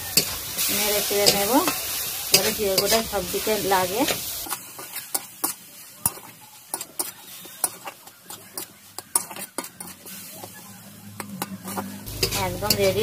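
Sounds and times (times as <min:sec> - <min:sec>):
metal spatula scraping pan: 0:00.0 - 0:13.0.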